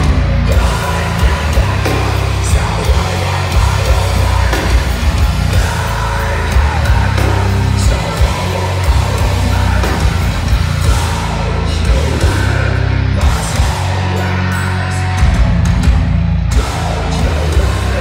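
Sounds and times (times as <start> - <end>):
bass guitar: 0.0 - 18.0
distorted guitars: 0.0 - 18.0
fast pounding drum kit: 0.0 - 18.0.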